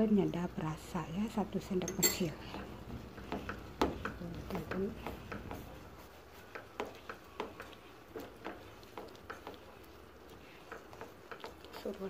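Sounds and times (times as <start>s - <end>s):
spatula stirring: 0.0s - 12.0s.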